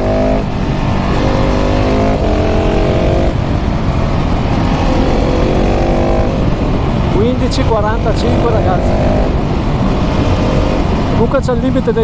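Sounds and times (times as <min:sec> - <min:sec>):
motorcycle engine accelerating: 0:00.0 - 0:11.7
wind rumble on microphone: 0:00.0 - 0:12.0.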